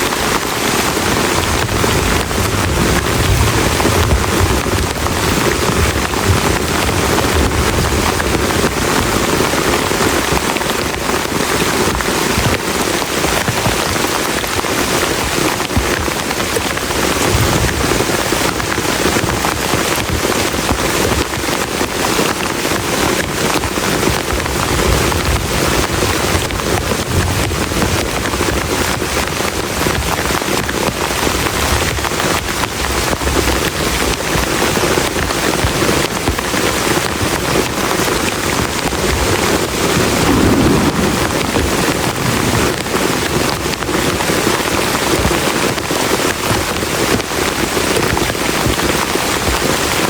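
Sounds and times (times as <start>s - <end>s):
heavy rain on a plastic tarp: 0.0s - 50.0s.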